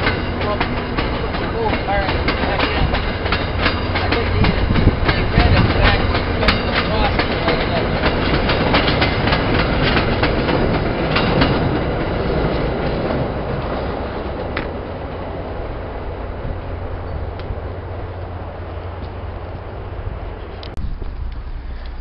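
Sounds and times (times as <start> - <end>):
train rumble: 0.0 - 22.0
wheels clicking over rail joints: 0.0 - 22.0.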